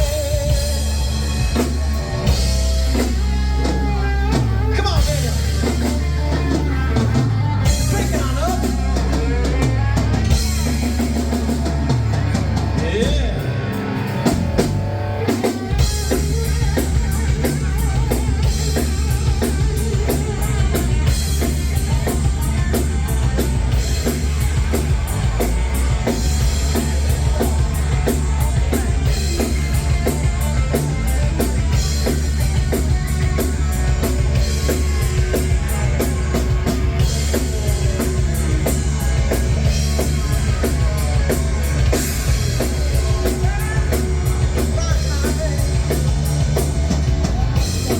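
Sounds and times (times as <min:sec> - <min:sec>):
drum kit beat: 0:00.0 - 0:47.9
electric guitar: 0:00.0 - 0:47.9
heavy bass line: 0:00.0 - 0:47.9.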